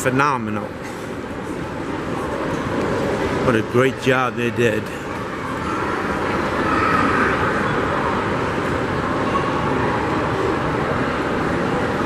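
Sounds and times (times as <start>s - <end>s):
busy underground transit hall: 0.0s - 12.0s.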